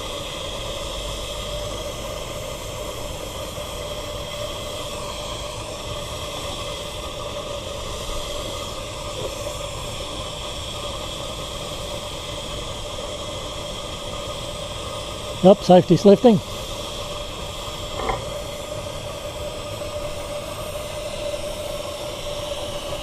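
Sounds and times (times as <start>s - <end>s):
steam hissing from model steam engine: 0.0s - 23.0s.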